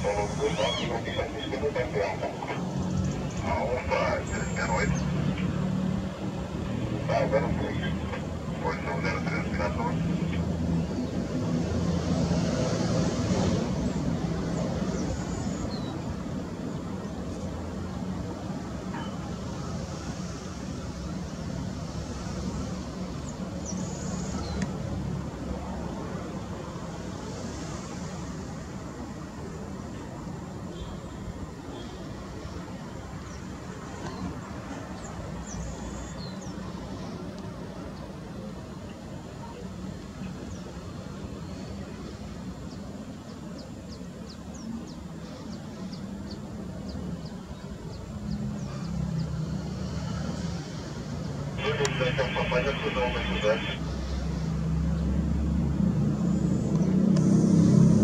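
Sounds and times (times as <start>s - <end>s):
jet engines low hum: 0.0s - 58.0s.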